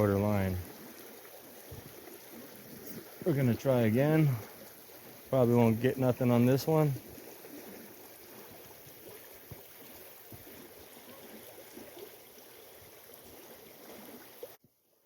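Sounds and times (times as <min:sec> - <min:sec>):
flowing river: 0:00.0 - 0:15.0.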